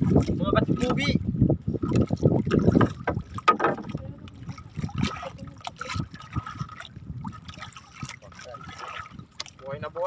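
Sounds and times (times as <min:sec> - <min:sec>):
water splashing against boat hull: 0:00.0 - 0:10.0.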